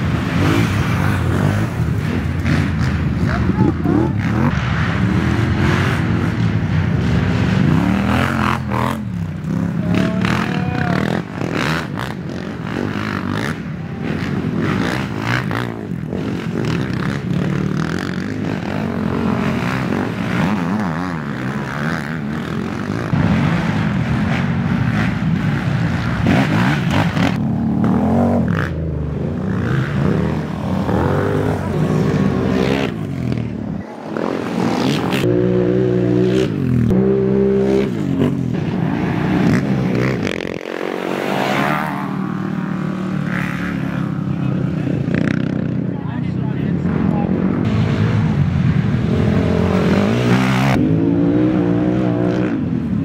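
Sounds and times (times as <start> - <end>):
atv engines revving: 0.0 - 53.0.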